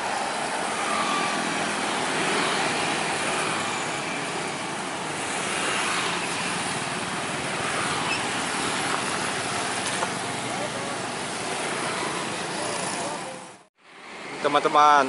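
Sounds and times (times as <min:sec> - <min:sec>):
road traffic rushing din: 0:00.0 - 0:14.8.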